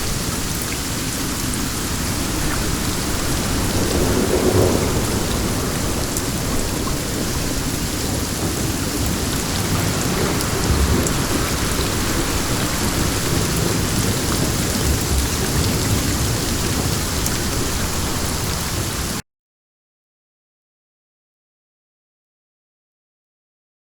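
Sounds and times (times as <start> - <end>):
heavy rain: 0.0 - 19.2
low rumble of thunder: 0.0 - 19.2
wind: 0.0 - 19.2.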